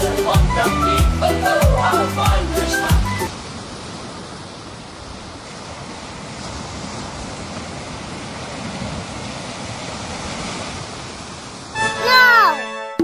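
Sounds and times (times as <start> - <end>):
ocean surf washing onto beach: 0.0 - 12.7.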